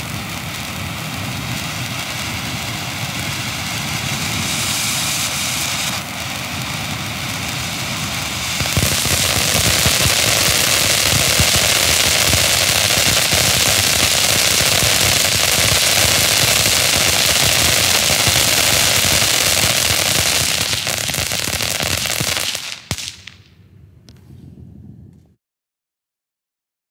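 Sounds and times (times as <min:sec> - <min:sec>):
firework fountain hissing and crackling: 0:00.0 - 0:23.4
sharp firework cracks: 0:00.0 - 0:23.6.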